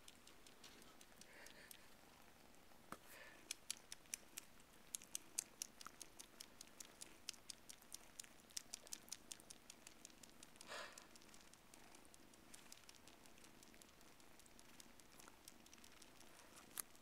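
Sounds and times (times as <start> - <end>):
kittens nursing soft clicks: 0.0 - 17.0.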